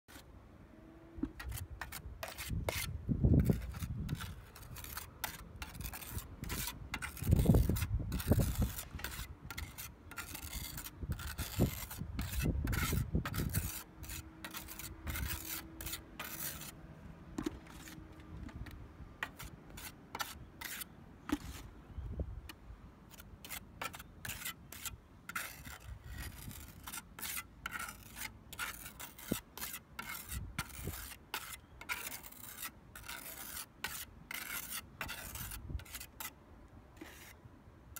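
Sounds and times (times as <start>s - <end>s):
trowel scraping: 1.2s - 21.7s, 22.5s - 36.4s, 37.0s - 37.4s.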